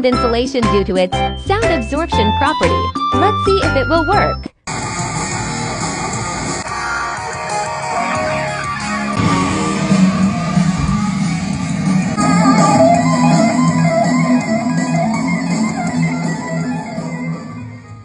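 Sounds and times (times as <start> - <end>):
guitar-led music: 0.0 - 18.0.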